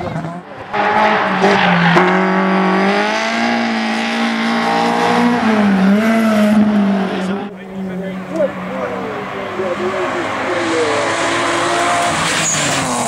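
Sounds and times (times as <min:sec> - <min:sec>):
car engine at high revs: 0:00.0 - 0:13.0
tyre and road noise: 0:00.0 - 0:13.0.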